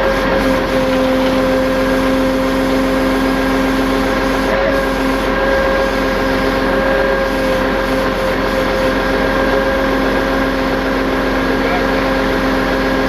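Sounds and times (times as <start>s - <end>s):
constant whine: 0.0s - 13.0s
tow truck engine running: 0.0s - 13.0s.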